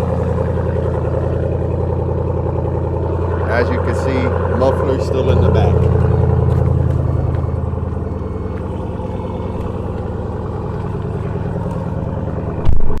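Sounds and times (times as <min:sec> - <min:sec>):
car exhaust idling burble: 0:00.0 - 0:13.0.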